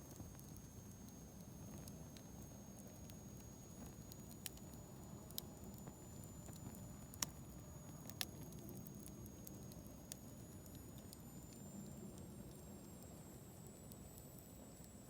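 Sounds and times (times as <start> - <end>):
campfire crackling: 0.1 - 13.2.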